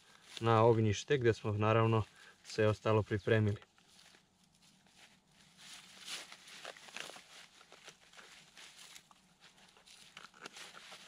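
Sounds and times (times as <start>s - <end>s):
dry grass rustling and crackling: 0.0s - 11.0s.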